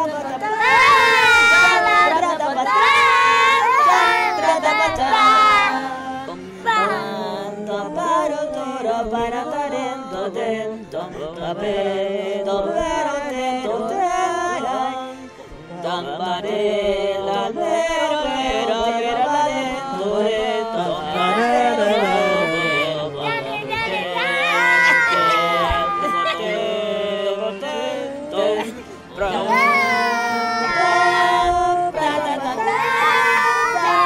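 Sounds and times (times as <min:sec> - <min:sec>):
voices chanting to music: 0:00.0 - 0:34.0.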